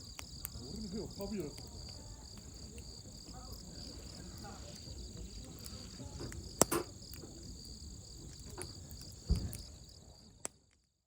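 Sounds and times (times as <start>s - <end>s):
insects chirring: 0.0s - 10.4s
campfire crackling and popping: 0.0s - 10.9s.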